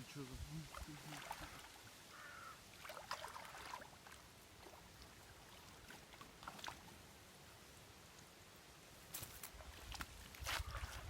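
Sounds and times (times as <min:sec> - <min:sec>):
faint water splashing and dripping: 0:00.0 - 0:11.0.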